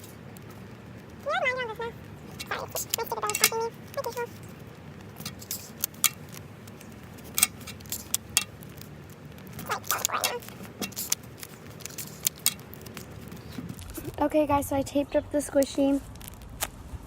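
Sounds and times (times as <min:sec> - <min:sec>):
adhesive tape crackling: 0:00.0 - 0:14.3, 0:15.6 - 0:17.0
rustle: 0:00.0 - 0:17.0.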